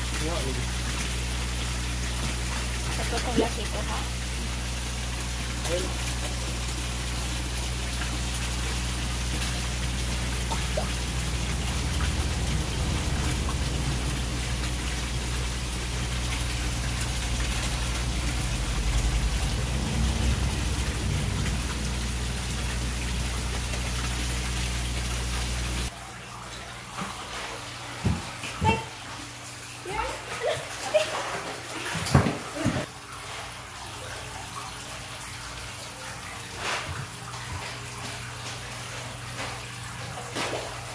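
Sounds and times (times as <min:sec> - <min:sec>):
water splashing into tank: 0:00.0 - 0:40.9.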